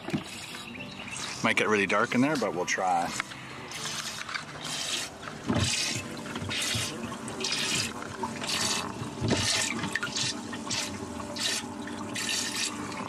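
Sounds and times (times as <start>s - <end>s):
water splashing and gurgling: 0.0s - 13.0s.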